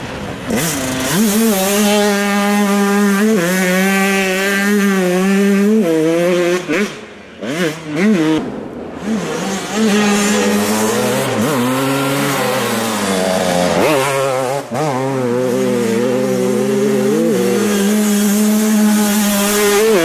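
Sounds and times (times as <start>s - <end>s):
motocross bike engines racing past: 0.0s - 20.0s.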